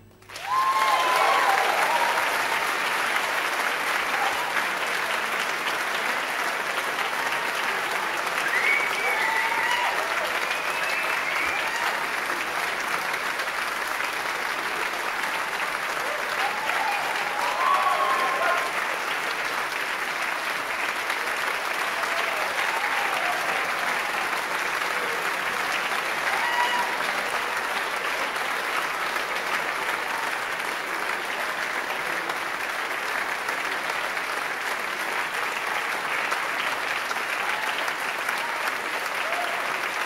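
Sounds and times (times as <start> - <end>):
audience applause: 0.0 - 40.0.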